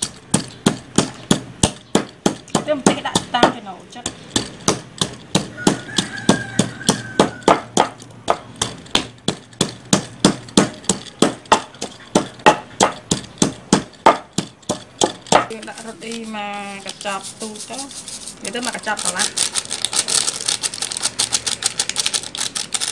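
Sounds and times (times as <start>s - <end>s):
pestle pounding in wooden mortar: 0.0s - 22.9s.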